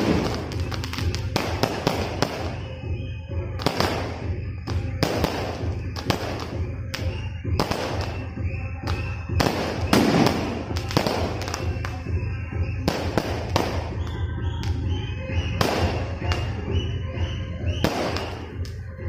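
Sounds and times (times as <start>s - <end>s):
fireworks bursting: 0.0s - 18.9s.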